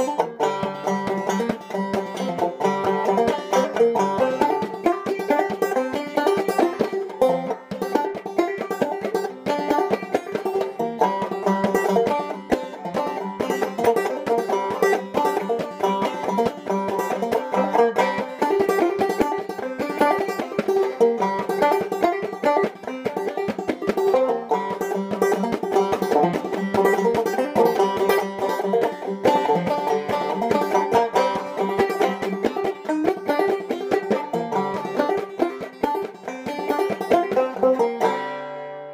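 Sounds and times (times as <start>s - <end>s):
clawhammer banjo playing: 0.0s - 38.9s.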